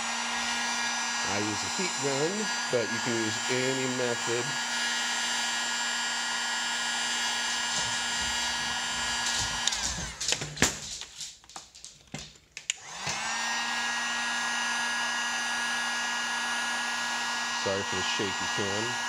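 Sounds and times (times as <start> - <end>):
heat gun fan hum and whine: 0.0 - 10.4, 12.7 - 19.0.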